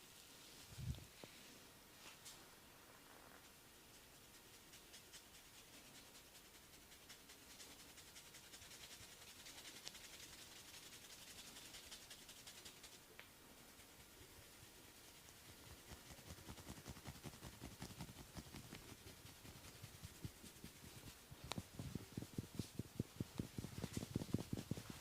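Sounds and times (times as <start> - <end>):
hands rubbing skin and hair: 0.5 - 13.0, 13.7 - 25.0.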